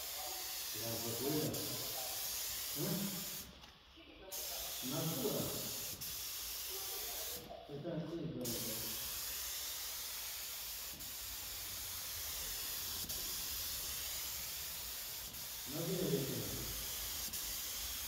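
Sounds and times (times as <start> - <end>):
paint spray gun hissing: 0.0 - 3.6, 4.3 - 7.6, 8.4 - 18.0.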